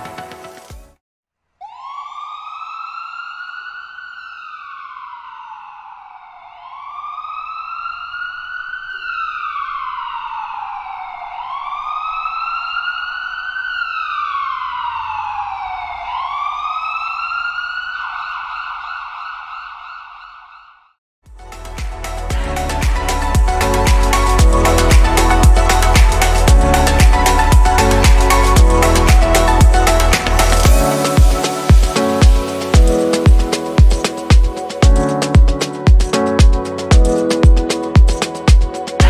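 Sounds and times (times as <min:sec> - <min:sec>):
wailing siren: 0:01.6 - 0:20.8, 0:21.6 - 0:39.0.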